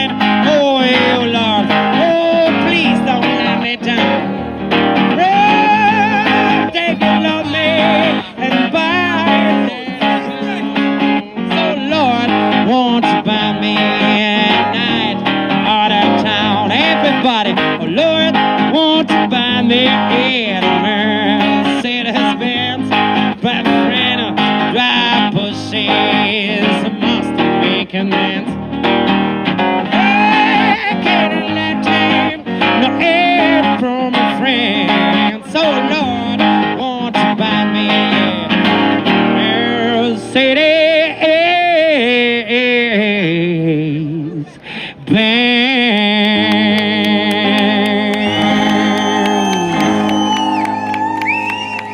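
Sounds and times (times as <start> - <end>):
strummed acoustic guitar: 0.0 - 50.5
man singing: 0.0 - 51.9.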